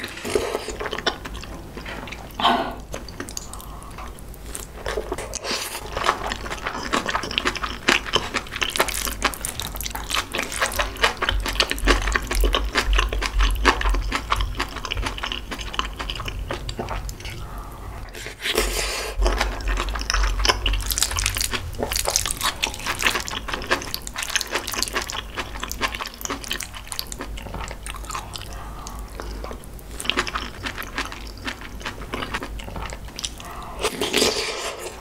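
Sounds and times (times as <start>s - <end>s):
wet chewing and smacking: 0.7s - 17.6s, 19.2s - 34.3s.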